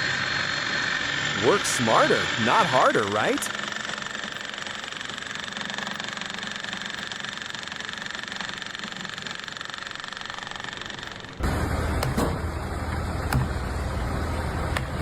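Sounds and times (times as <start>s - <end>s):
small engine chattering: 0.0s - 15.0s.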